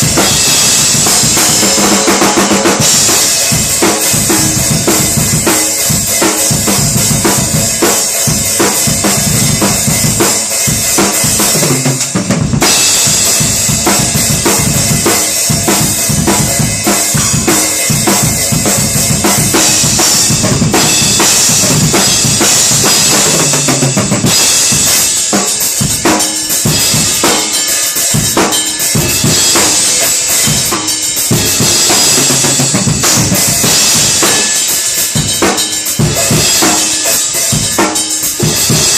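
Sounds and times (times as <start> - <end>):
bass drum and snare strokes: 0.0 - 38.9.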